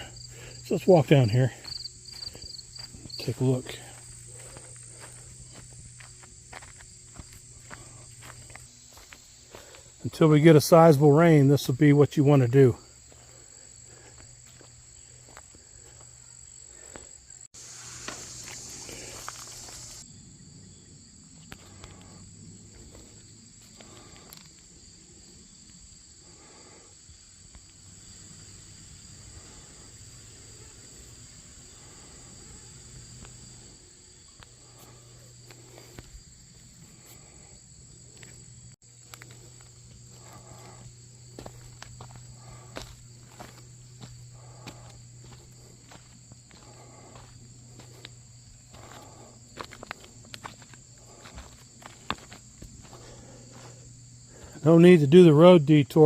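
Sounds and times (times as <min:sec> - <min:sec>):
footsteps on rough ground: 0:00.0 - 0:20.0, 0:21.4 - 0:25.2, 0:31.2 - 0:54.7
crickets and insects chirping: 0:00.0 - 0:56.0.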